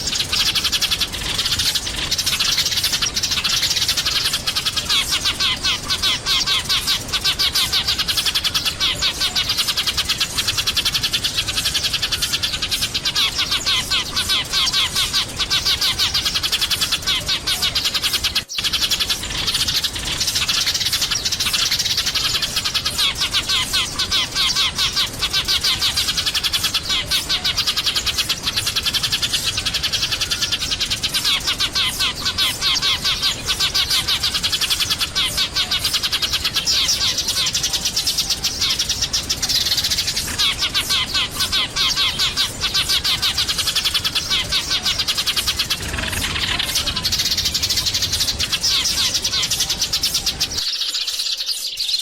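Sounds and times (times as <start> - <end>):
sparrows chirping: 0.0 - 52.0.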